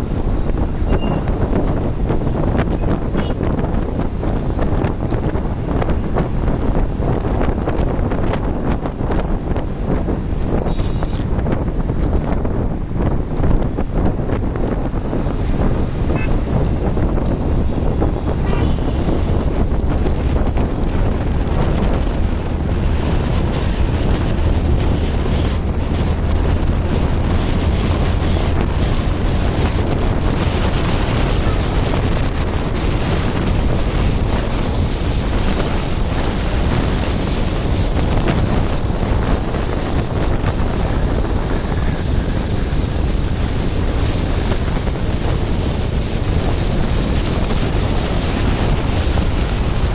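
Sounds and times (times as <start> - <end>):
road and engine noise: 0.0 - 49.9
wind roaring over microphone: 0.0 - 49.9.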